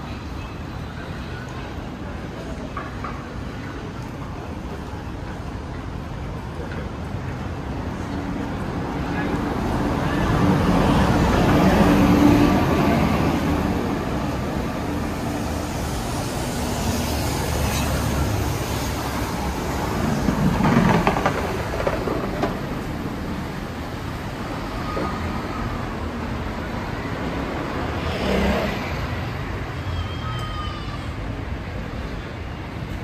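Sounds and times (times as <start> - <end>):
passing road traffic rumble: 0.0 - 33.0.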